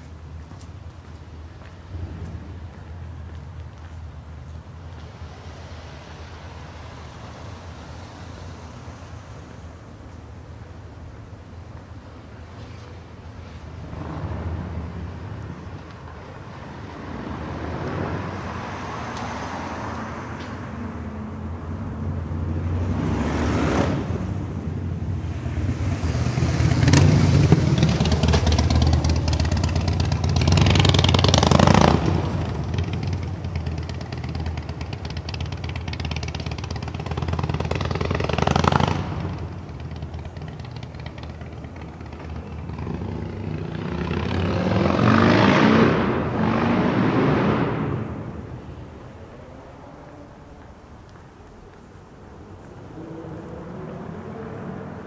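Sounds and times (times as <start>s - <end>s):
vehicles passing close by: 0.0s - 55.0s.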